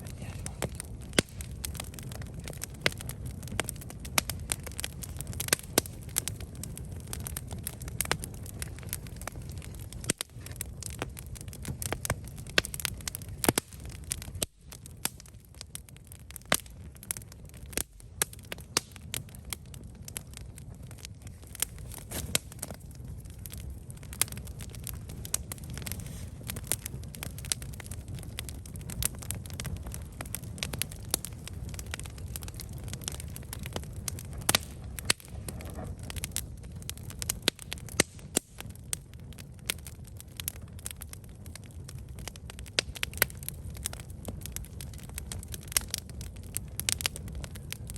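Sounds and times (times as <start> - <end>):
flames rushing: 0.0 - 47.9
wood crackling and popping: 0.0 - 47.9.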